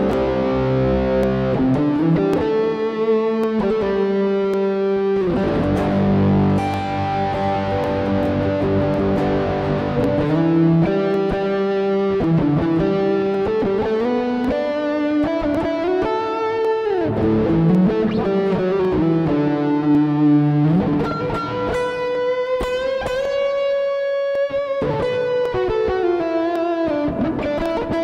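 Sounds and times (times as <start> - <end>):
overdriven electric guitar: 0.0 - 28.0.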